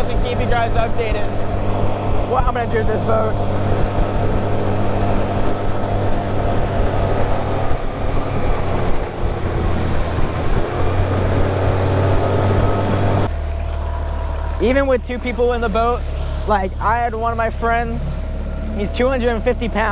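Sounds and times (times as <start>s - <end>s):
outboard motor running: 0.0s - 19.9s
water noise: 0.0s - 19.9s
wind: 0.0s - 19.9s.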